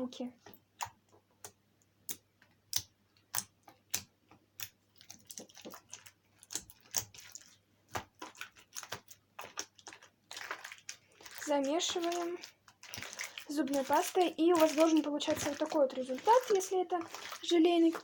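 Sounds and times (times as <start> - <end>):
slime clicking and squelching: 0.4 - 18.0.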